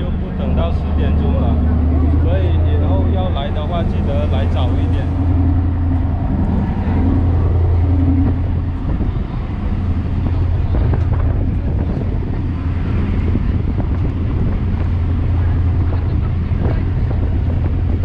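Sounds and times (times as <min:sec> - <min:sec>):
ferry engine droning: 0:00.0 - 0:18.0
wind buffeting microphone: 0:00.0 - 0:18.0.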